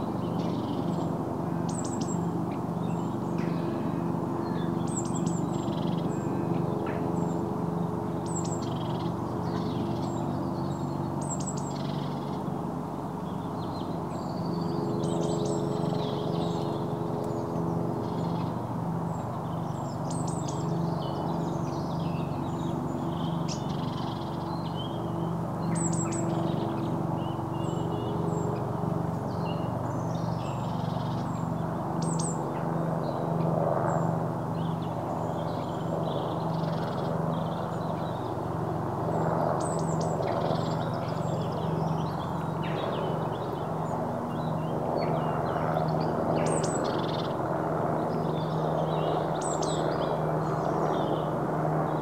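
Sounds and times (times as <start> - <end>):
birds chirping: 0.1 - 12.5, 13.2 - 33.2, 33.8 - 52.0.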